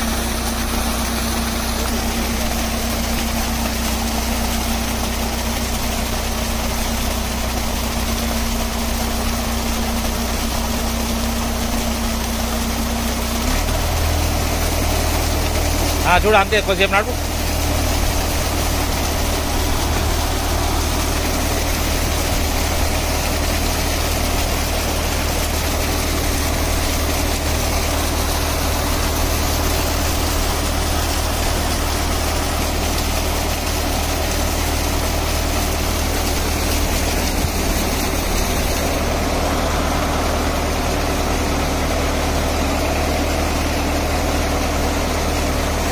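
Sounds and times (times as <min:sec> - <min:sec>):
tractor diesel engine running: 0:00.0 - 0:45.9
water jetting from pipe: 0:00.0 - 0:45.9.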